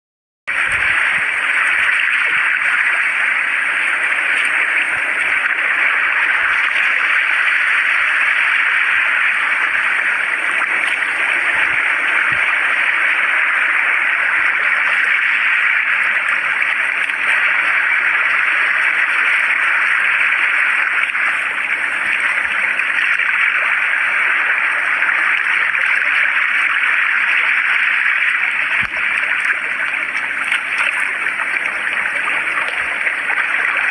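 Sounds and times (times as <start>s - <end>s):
sea water splashing over rocks: 0.5s - 33.9s.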